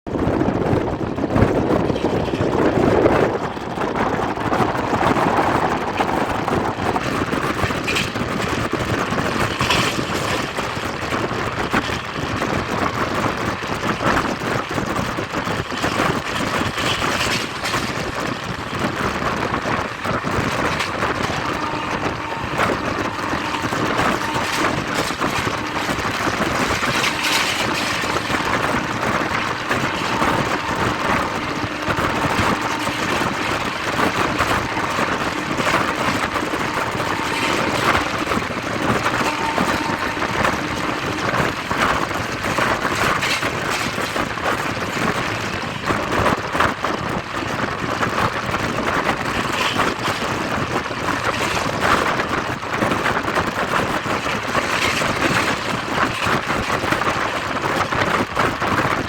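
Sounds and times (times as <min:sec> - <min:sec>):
train wheels rumbling on track: 0:00.0 - 0:59.0
wind noise: 0:00.0 - 0:59.0.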